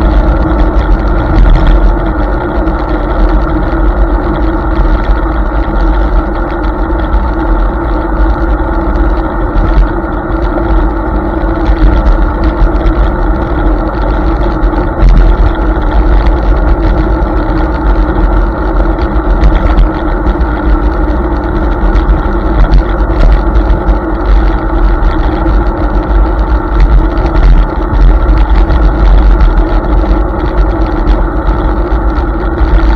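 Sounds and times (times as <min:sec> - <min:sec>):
faint steady hum: 0:00.0 - 0:32.9
wind buffeting microphone: 0:00.0 - 0:32.9.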